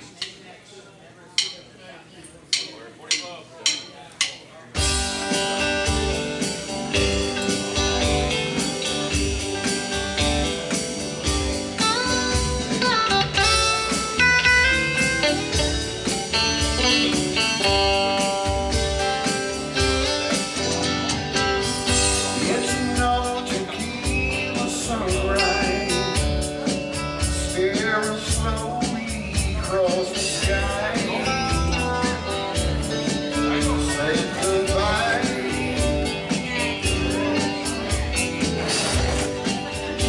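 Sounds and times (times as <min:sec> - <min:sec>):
live instrumental band music: 0:03.6 - 0:40.0.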